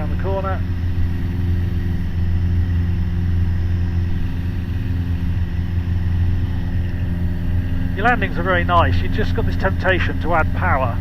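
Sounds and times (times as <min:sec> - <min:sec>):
aircraft engine and propeller droning: 0:00.0 - 0:11.0.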